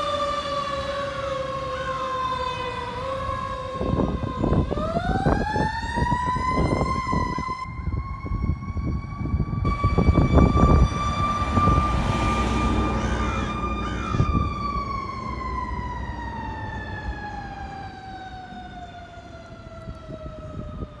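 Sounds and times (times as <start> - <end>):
fire engine siren: 0.0 - 21.0.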